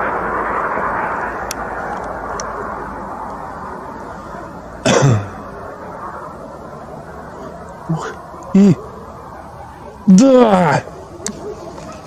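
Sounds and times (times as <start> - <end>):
steady noisy rumble: 0.0 - 12.0.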